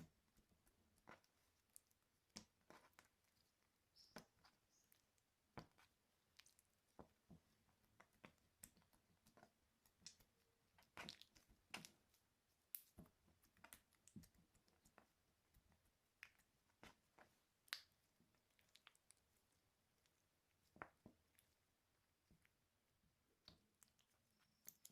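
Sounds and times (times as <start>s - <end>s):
slime squishing with sticky pops: 0.0s - 22.6s, 23.4s - 24.9s.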